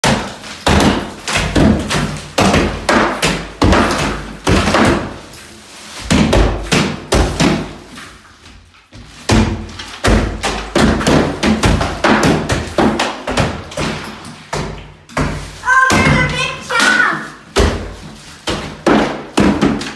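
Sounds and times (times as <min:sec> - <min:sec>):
hammers smashing drywall: 0:00.0 - 0:05.4, 0:06.0 - 0:08.0, 0:09.1 - 0:19.9.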